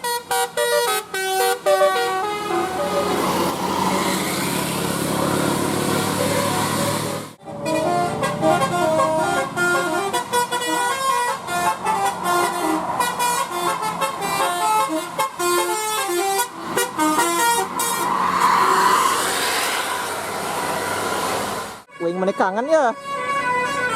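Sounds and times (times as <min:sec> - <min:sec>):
musical air horns playing melody: 0:00.0 - 0:04.0, 0:05.4 - 0:18.8, 0:21.9 - 0:23.9.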